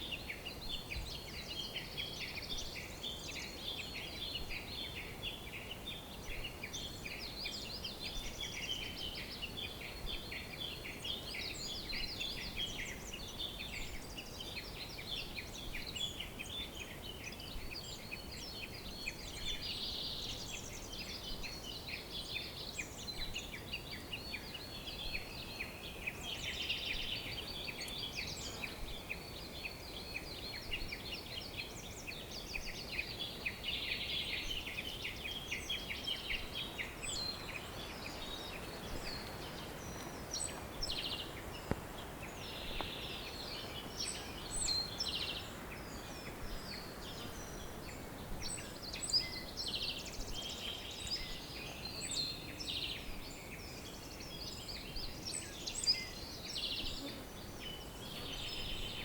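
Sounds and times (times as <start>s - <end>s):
chorus of songbirds singing: 0.0s - 59.0s.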